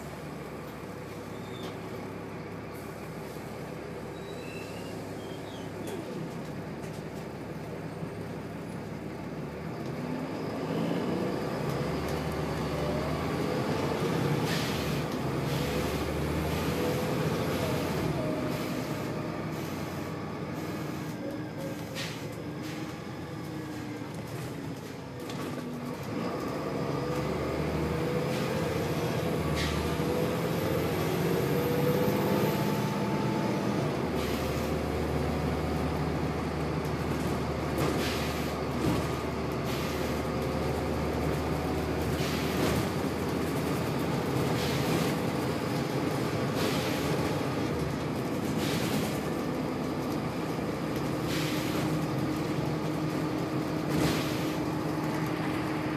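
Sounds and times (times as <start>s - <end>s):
bus diesel engine: 0.0s - 55.9s.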